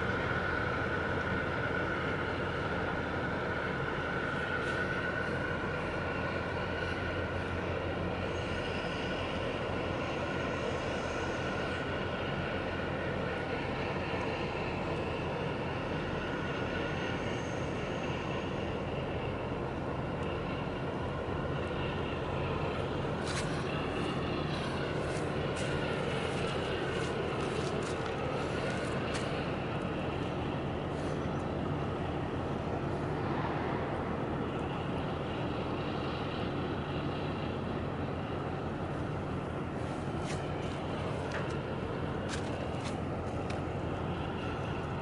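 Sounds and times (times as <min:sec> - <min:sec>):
ship engine rumble: 0:00.0 - 0:45.0.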